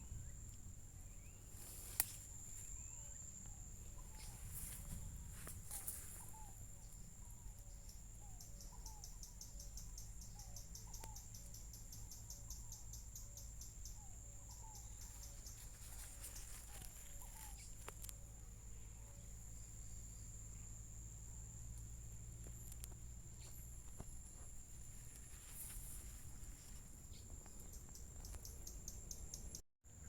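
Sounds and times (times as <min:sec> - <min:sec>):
insects buzzing: 0:00.0 - 0:29.6
rapid insect chirps: 0:00.0 - 0:29.6.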